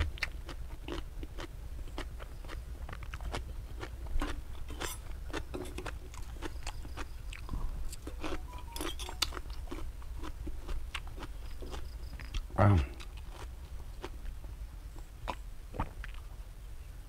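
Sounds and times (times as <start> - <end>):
person chewing crunchy food: 0.0 - 16.4.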